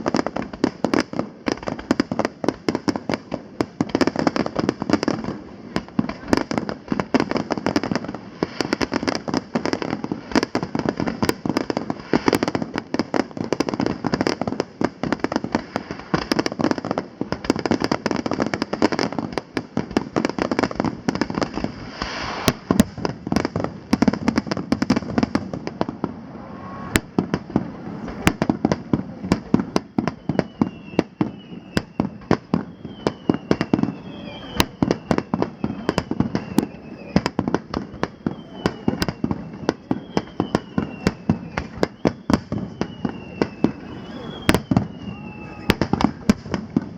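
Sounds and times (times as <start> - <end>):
fireworks bangs and crackling: 0.0 - 46.9
fireworks falling whistles: 0.0 - 46.9.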